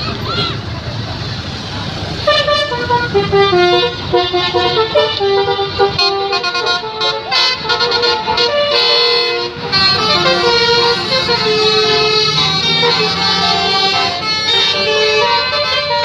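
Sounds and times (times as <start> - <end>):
low engine rumble: 0.0 - 16.0
musical bus horn tune: 2.2 - 16.0.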